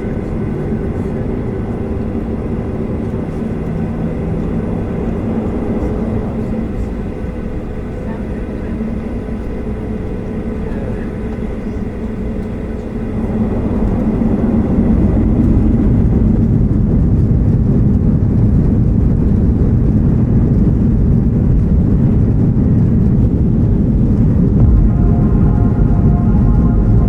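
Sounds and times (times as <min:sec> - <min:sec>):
jet engines roaring from cabin: 0:00.0 - 0:20.8, 0:21.4 - 0:27.0.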